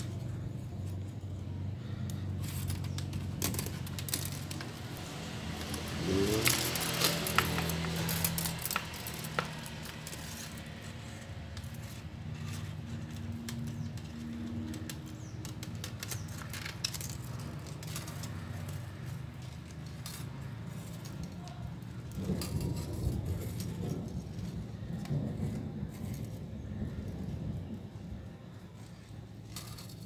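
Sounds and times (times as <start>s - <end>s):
metal spring clinking and scraping: 2.0s - 26.5s, 29.2s - 30.0s.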